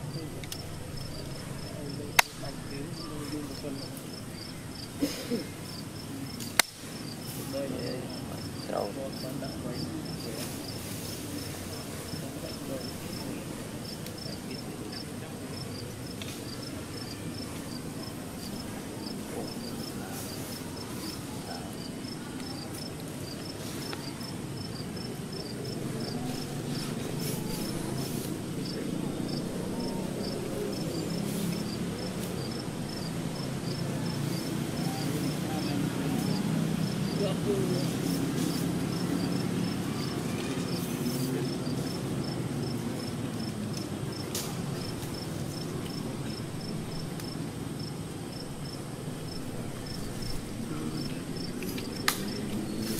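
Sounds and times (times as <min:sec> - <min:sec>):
insect chirping: 0:00.0 - 0:52.9
low background noise: 0:00.0 - 0:52.9.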